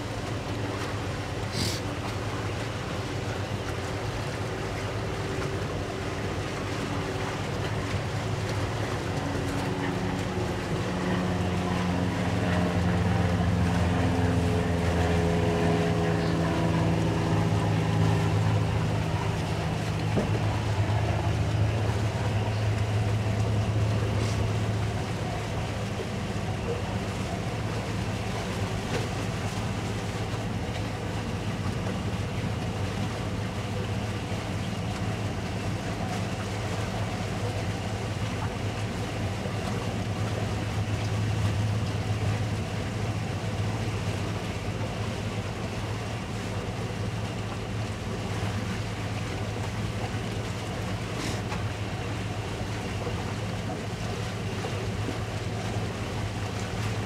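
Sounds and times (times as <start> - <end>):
outboard engine running: 0.0 - 57.0
wind and water hiss: 0.0 - 57.0.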